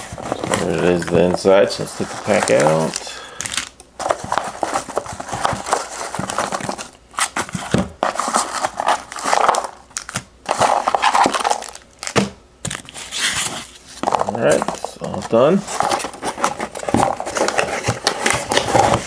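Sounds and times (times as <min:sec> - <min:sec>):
packing peanuts rustling and squeaking: 0:00.0 - 0:19.0.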